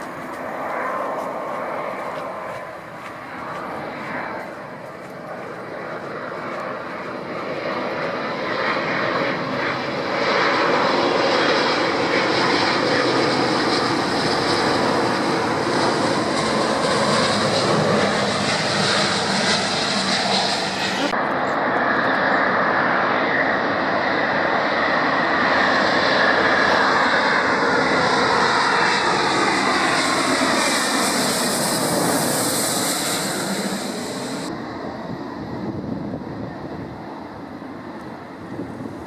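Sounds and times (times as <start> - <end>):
airliner engines roaring: 0.0 - 39.0.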